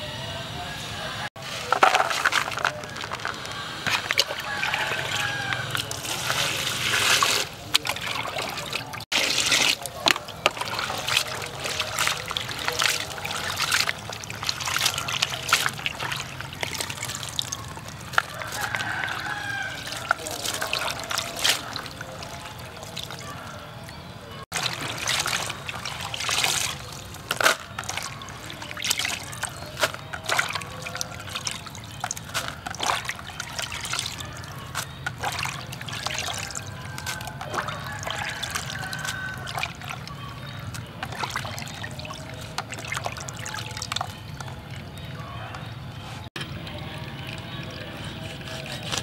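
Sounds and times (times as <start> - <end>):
small clicks and splashes: 1.5 - 47.8
water trickling and dripping: 1.6 - 48.3.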